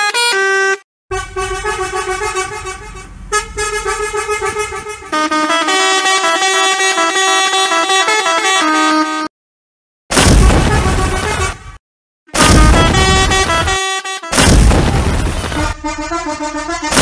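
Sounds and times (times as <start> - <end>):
vehicle horn playing tunes: 0.0 - 9.3, 10.7 - 11.7, 12.4 - 14.4, 15.6 - 17.0.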